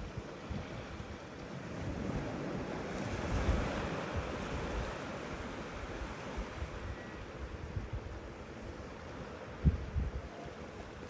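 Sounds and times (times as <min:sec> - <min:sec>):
sea waves breaking on sand: 0:00.0 - 0:11.0
wind buffeting microphone: 0:00.0 - 0:11.0.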